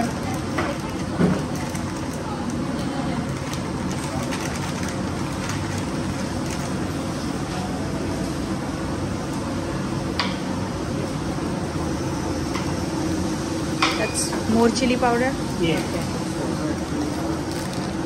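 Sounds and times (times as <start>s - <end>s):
ventilation fan hum: 0.0s - 18.0s.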